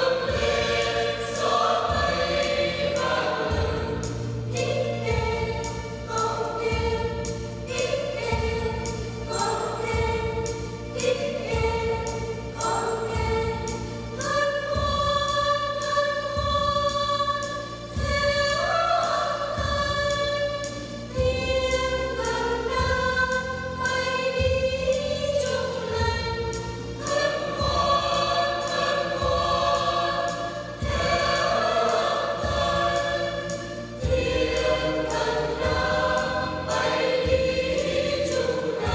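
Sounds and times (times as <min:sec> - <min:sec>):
church choir singing: 0:00.0 - 0:38.9
instrumental accompaniment with beat: 0:00.0 - 0:38.9.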